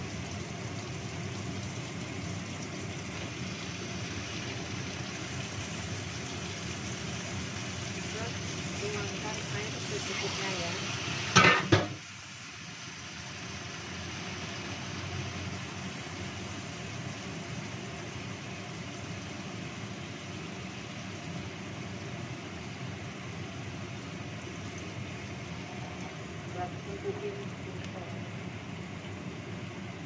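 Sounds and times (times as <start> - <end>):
liquid simmering with a hiss: 0.0 - 30.0.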